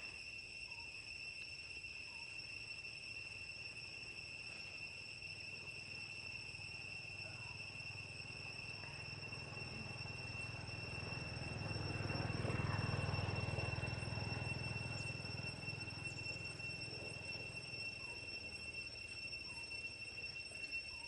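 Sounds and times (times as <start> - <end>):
insect droning high pitch: 0.0 - 21.0.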